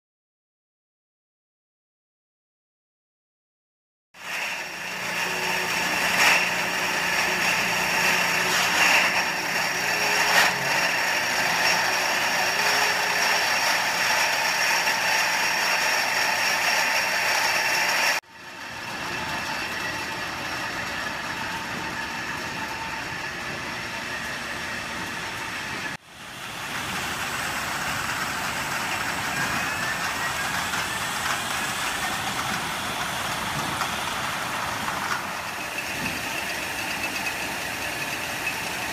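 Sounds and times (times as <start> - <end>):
high whining tones: 4.2 - 38.9
machinery humming and hissing: 4.2 - 38.9.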